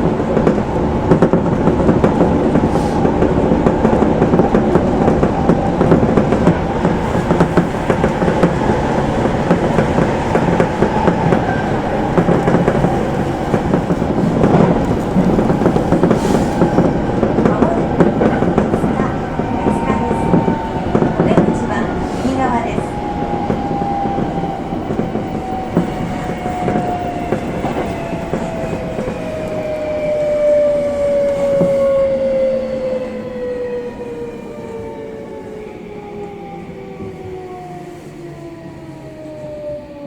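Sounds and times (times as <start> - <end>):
train wheel and track rumble: 0.0 - 40.0.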